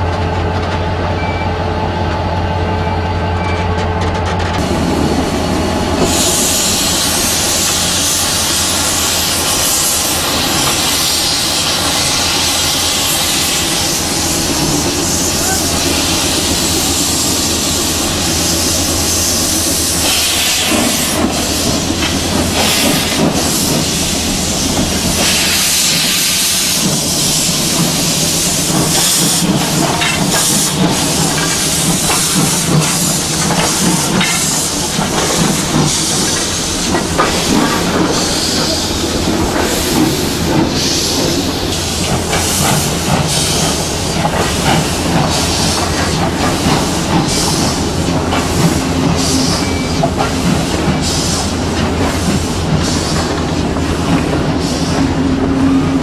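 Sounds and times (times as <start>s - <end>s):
steam hissing: 4.6s - 56.0s.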